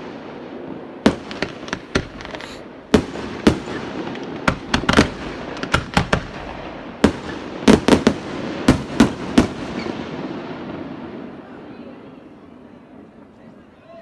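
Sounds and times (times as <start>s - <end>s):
fireworks banging: 0.0s - 11.6s.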